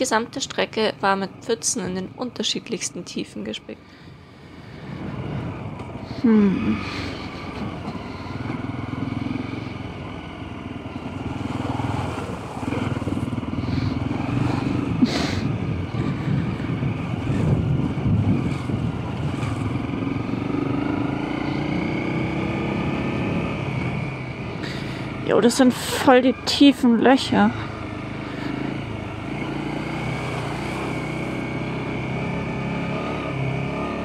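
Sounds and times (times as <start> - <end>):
motorcycle engine under load: 4.5 - 34.0.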